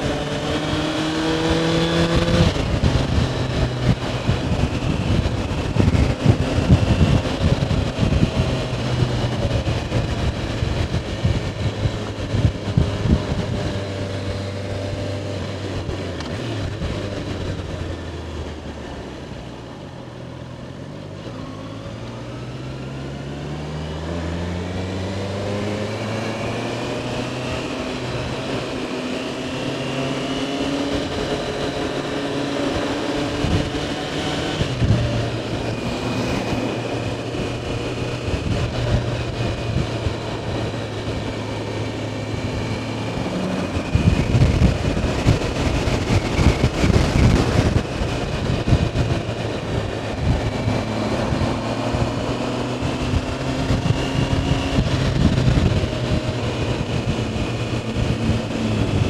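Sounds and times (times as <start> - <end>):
wind buffeting microphone: 0.0 - 18.5, 24.8 - 59.0
motorcycle engine accelerating: 0.0 - 59.0.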